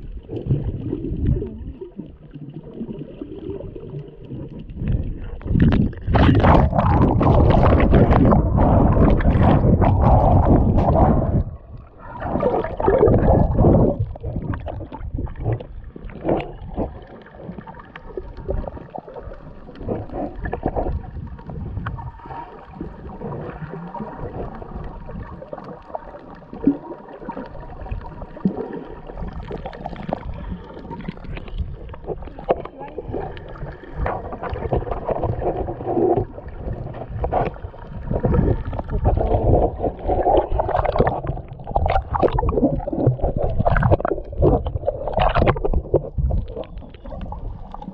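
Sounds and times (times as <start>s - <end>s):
splashing and bubbling: 0.0s - 47.9s
underwater clicks and crackles: 0.0s - 47.9s.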